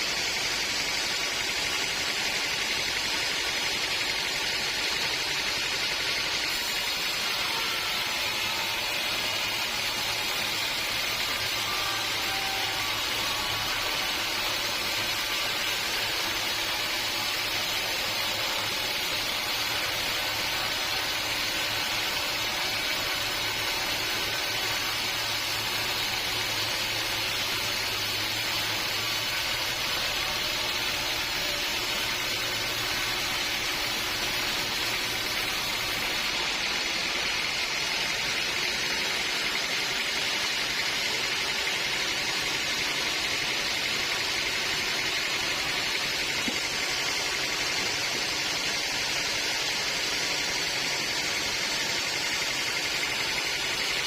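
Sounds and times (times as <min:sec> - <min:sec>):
band saw blade hissing: 0:00.0 - 0:54.0.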